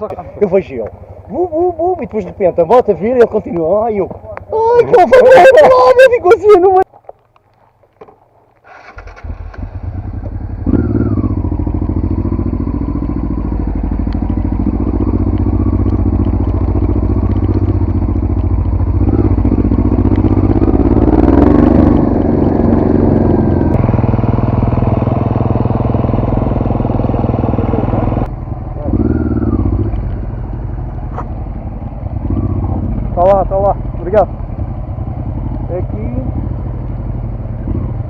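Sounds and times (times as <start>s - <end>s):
dirt bike engine starting and running: 0.0s - 38.0s.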